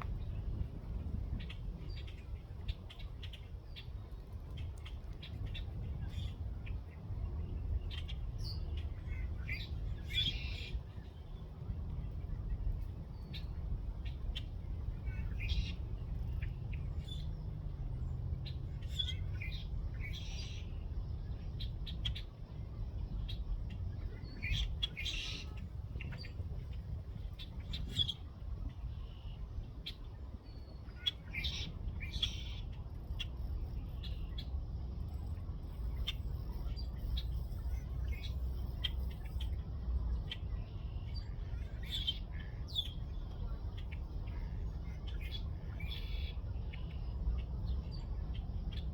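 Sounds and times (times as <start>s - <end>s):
steady low rumble: 0.0s - 48.9s.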